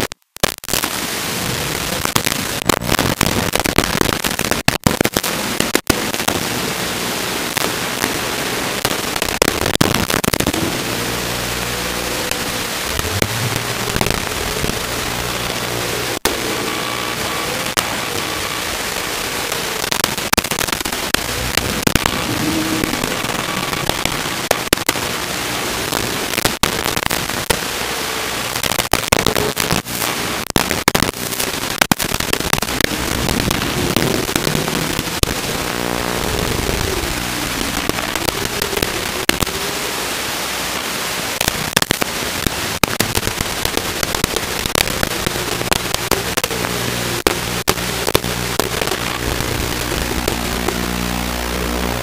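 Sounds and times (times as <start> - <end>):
crackling static with pops: 0.0 - 52.0
faint whine: 0.0 - 52.0.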